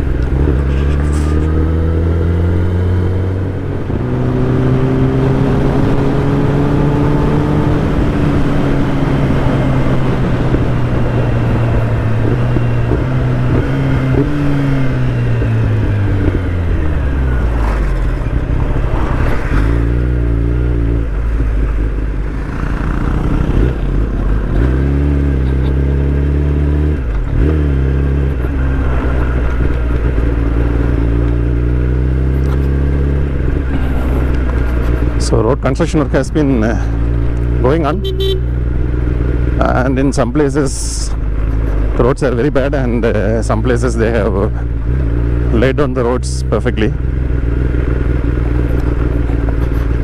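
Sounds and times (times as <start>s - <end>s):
motorcycle engine running: 0.0s - 50.0s
wind and road rush: 0.0s - 50.0s.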